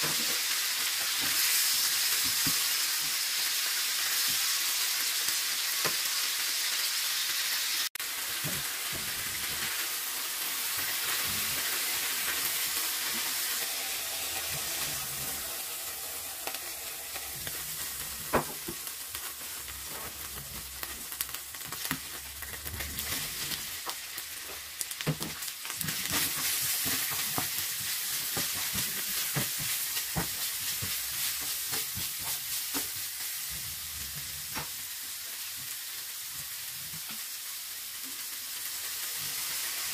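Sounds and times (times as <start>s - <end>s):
oil sizzling in a frying pan: 0.0s - 39.9s.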